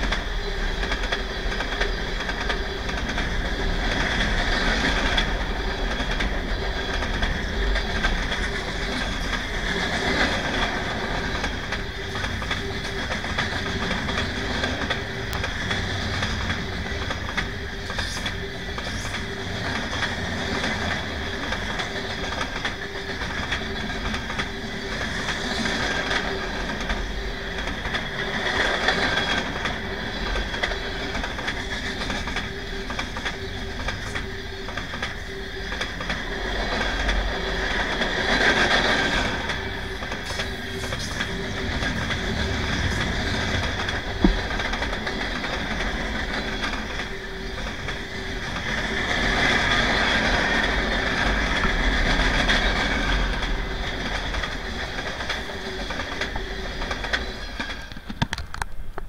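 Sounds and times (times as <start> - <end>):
high wheel squeal: 0.0 - 58.2
freight train rumble: 0.0 - 59.0
train wheels clicking over rail joints: 0.0 - 59.0.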